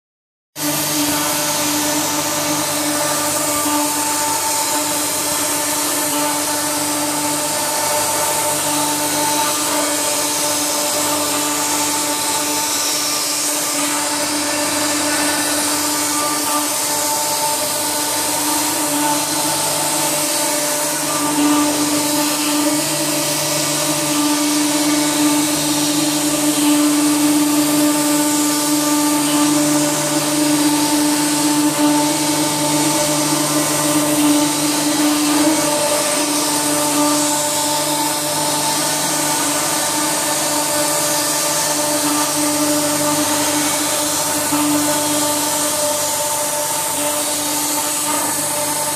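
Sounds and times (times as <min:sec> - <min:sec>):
hiss: 0:00.6 - 0:48.9
router spindle whine: 0:00.6 - 0:48.9.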